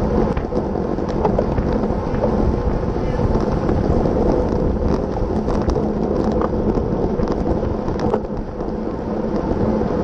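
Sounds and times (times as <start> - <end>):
road rumble: 0.0 - 10.0
wind rushing over microphone: 0.0 - 10.0.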